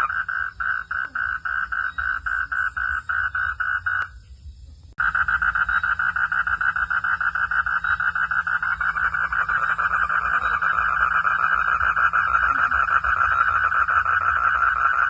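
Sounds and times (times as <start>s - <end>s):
frogs calling with pulsing trill: 0.0s - 15.0s.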